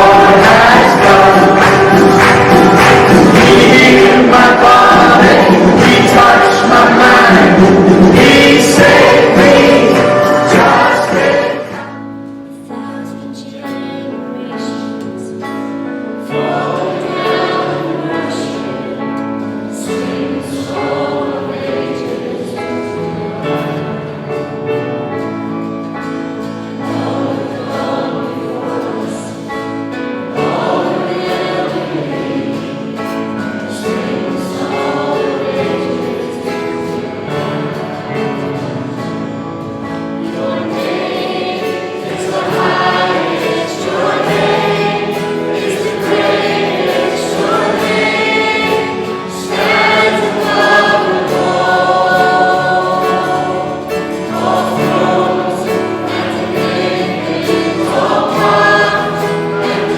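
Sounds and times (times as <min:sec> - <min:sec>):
congregation singing a hymn: 0:00.0 - 0:59.9
instrumental accompaniment: 0:00.0 - 0:59.9.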